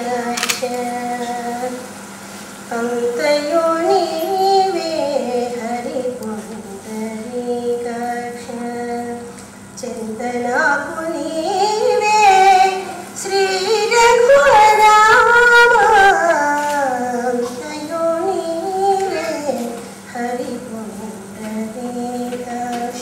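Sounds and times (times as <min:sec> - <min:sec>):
woman singing into a microphone: 0:00.0 - 0:02.0, 0:02.7 - 0:23.0.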